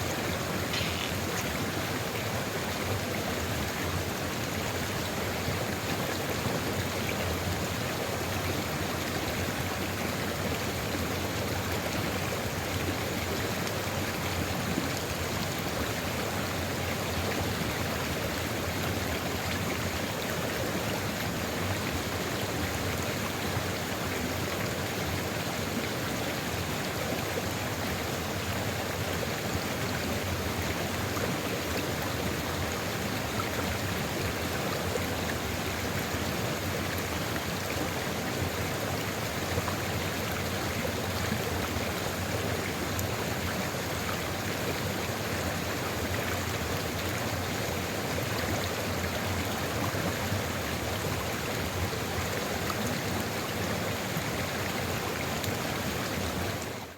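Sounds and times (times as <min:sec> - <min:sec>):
river flowing: 0:00.0 - 0:56.9.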